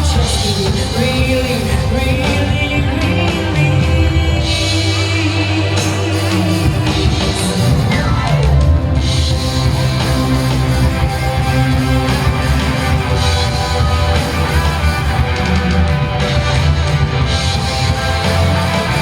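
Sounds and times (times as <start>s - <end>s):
bass line: 0.0s - 19.0s
electric guitar: 0.0s - 19.0s
live rock band playing: 0.0s - 19.0s.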